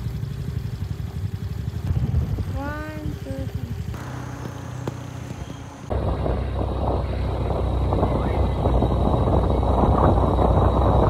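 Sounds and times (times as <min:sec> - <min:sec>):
motor scooter engine idling: 0:00.0 - 0:09.8
wind buffeting microphone: 0:01.8 - 0:11.0.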